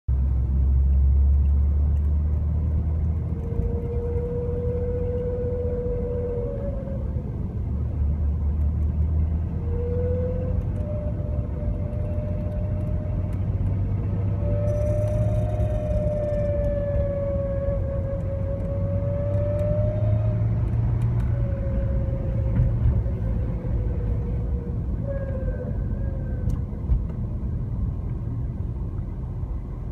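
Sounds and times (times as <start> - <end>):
car engine rumble: 0.1 - 29.9
whine: 0.6 - 29.9.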